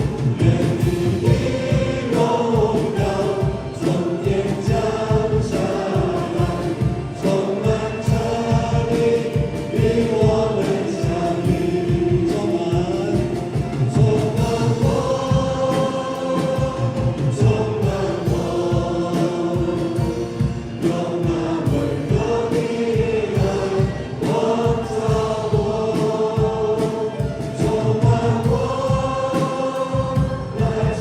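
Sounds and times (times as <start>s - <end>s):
band accompaniment with beat: 0.0s - 31.0s
group singing worship song: 0.0s - 31.0s.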